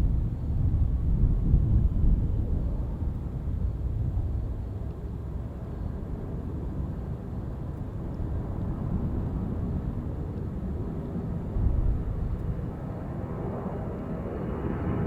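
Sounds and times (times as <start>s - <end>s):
distant jet engine rumble: 0.0s - 15.0s
wind buffeting microphone: 0.0s - 15.0s.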